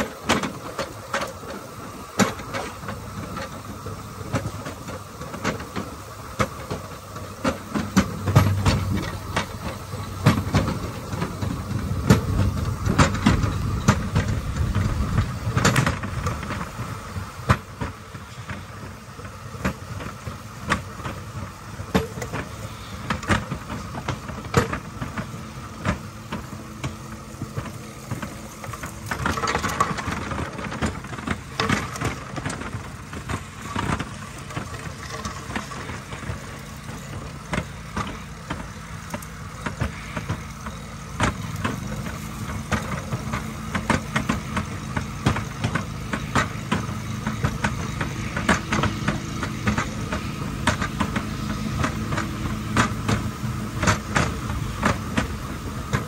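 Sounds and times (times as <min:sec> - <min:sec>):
sharp clacks and knocks: 0:00.0 - 0:56.0
steel wheels rumbling on track: 0:00.0 - 0:56.0.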